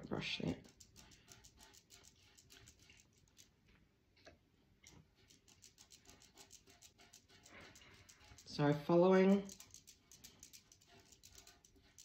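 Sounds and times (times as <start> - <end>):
brush bristles scratching: 0.3 - 3.6, 4.9 - 12.0.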